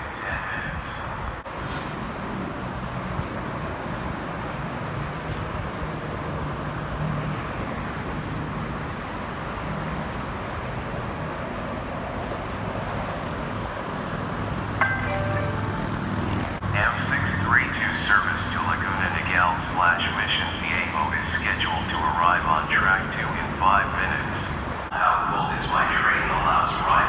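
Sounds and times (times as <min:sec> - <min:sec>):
road traffic hum: 0:00.0 - 0:27.0
faint low engine drone: 0:03.2 - 0:27.0.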